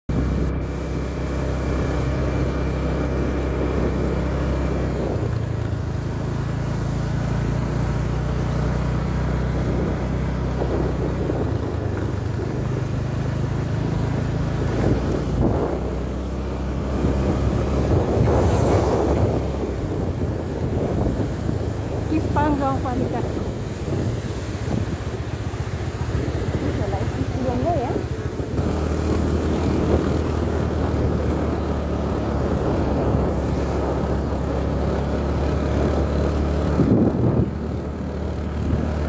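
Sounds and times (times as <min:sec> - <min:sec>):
road noise: 0:00.0 - 0:39.0
vehicle engine running: 0:00.0 - 0:39.0
wind noise: 0:00.1 - 0:39.0.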